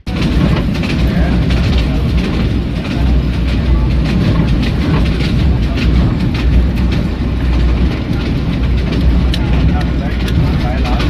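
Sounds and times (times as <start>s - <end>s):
train low rumble: 0.0s - 11.0s
wheel clicks on rails: 0.0s - 11.0s.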